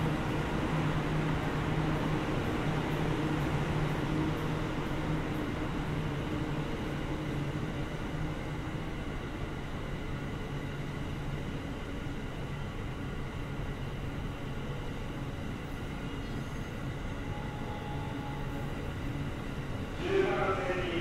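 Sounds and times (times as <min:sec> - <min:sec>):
train hum and rumble: 0:00.0 - 0:21.0.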